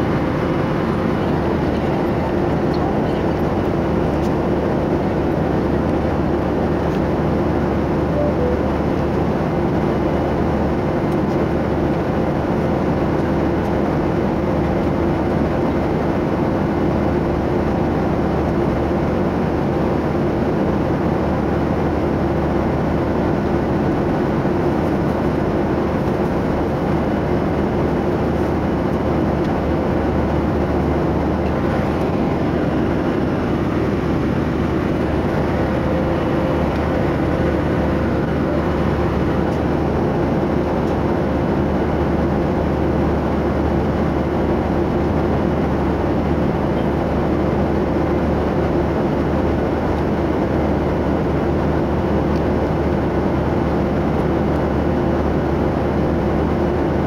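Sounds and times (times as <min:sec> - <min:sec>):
airliner cabin noise: 0:00.0 - 0:57.0.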